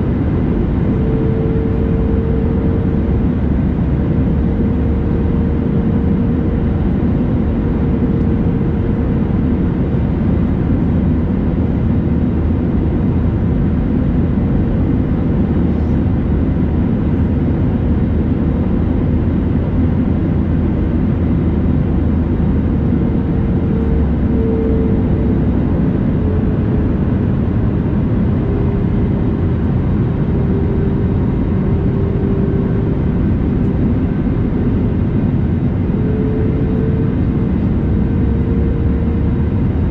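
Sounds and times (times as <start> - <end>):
airliner engine rumble: 0.0 - 39.9
faint steady whine: 0.0 - 39.9.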